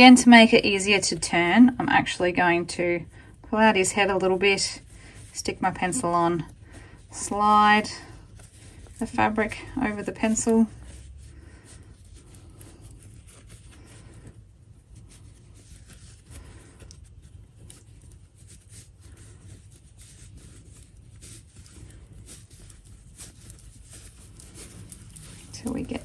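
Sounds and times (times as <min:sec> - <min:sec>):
fabric rustling and scratching: 0:00.0 - 0:26.0.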